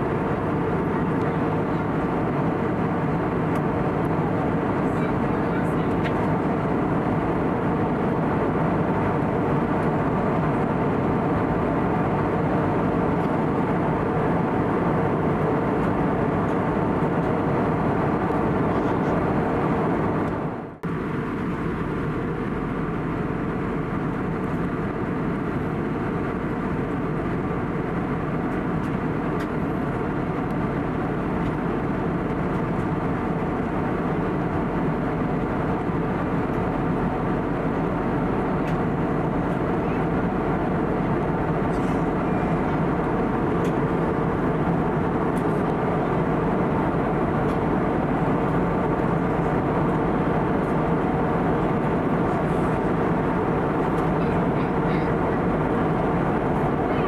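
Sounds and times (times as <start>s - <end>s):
airplane cabin airflow: 0.0s - 57.0s
jet engine hum: 0.0s - 57.0s.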